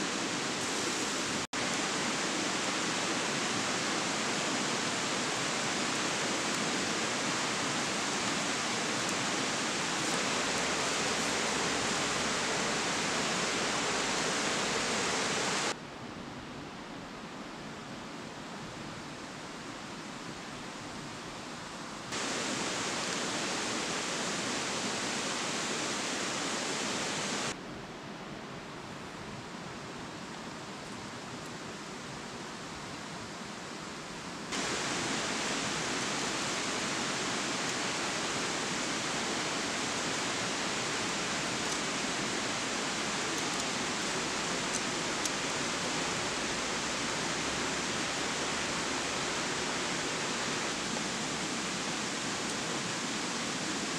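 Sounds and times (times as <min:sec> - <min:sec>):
river rushing over rapids: 0:00.0 - 0:15.8, 0:18.8 - 0:27.6, 0:29.7 - 0:53.9.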